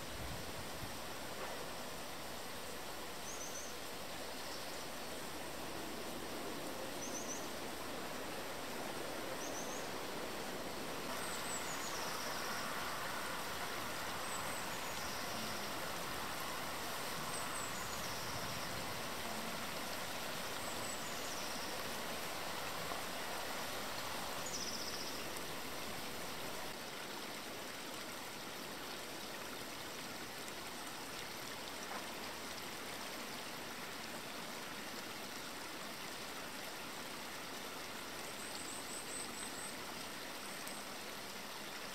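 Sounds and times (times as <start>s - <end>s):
running water: 0.0s - 41.9s.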